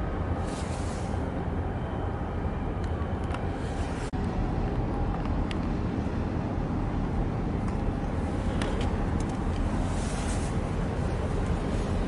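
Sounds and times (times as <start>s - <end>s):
low harbour rumble: 0.0s - 12.0s.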